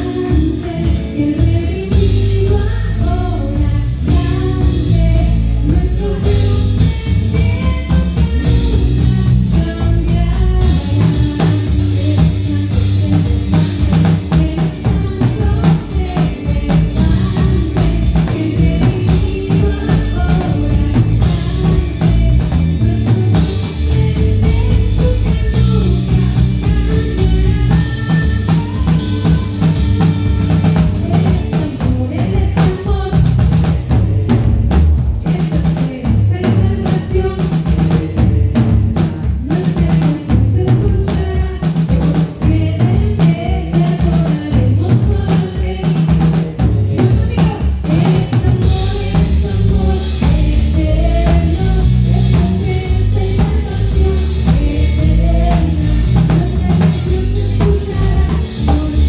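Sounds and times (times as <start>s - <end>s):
drum kit beat: 0.0s - 59.0s
electric guitar: 0.0s - 59.0s
person singing: 0.0s - 59.0s.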